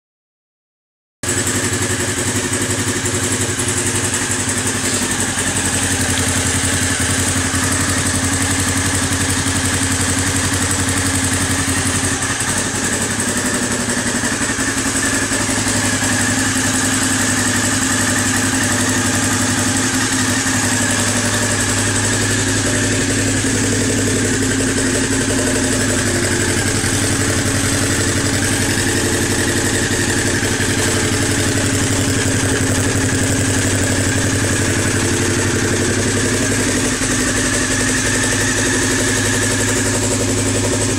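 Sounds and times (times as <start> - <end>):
motorcycle engine idling: 1.2 - 40.9.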